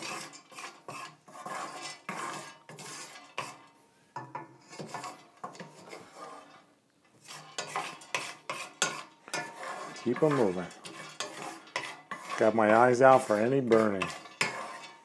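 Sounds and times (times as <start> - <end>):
utensil scraping and clinking pan: 0.0 - 15.0.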